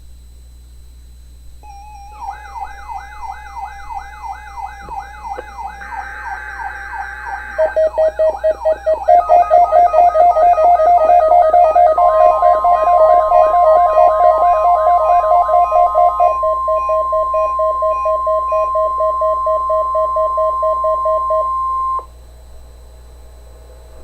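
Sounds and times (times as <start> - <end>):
fast pulsing beep: 1.6 - 22.1
steady tone: 1.6 - 22.1
warbling alert alarm: 1.6 - 22.1
data header screech: 1.7 - 22.0.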